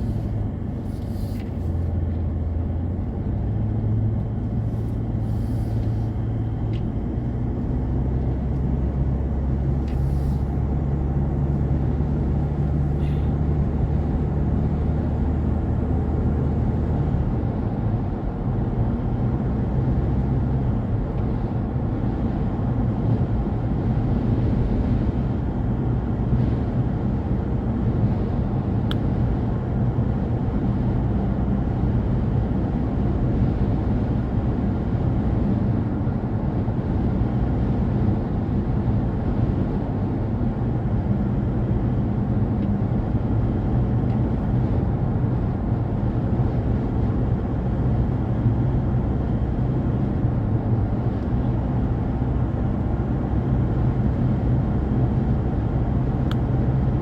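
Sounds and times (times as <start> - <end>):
car engine hum: 0.0 - 57.0.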